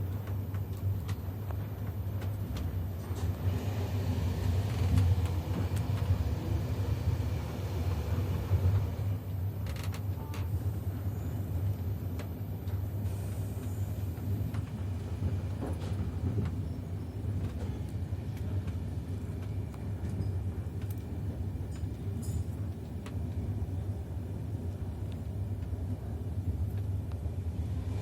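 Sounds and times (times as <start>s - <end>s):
passenger train rumbling: 0.0s - 28.0s.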